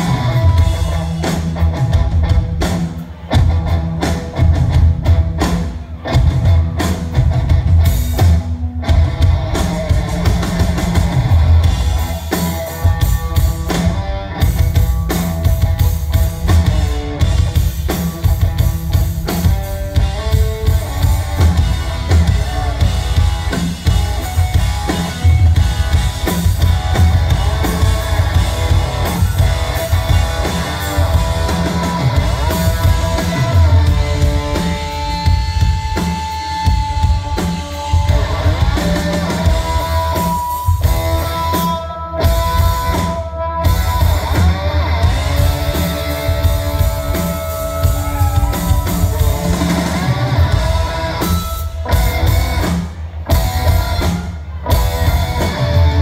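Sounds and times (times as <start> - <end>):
driving drum kit: 0.0 - 56.0
electric guitar: 0.0 - 56.0
live rock band playing: 0.0 - 56.0.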